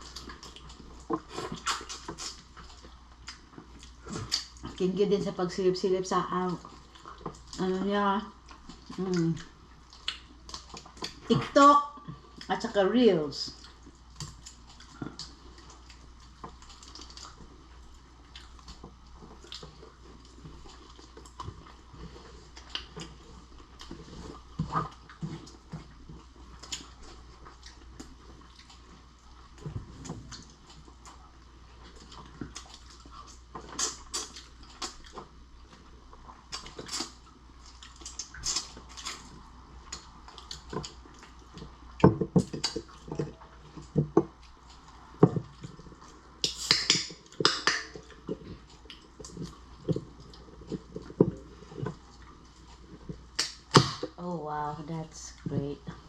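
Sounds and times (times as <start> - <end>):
chewing: 0.0 - 12.7, 13.5 - 54.0.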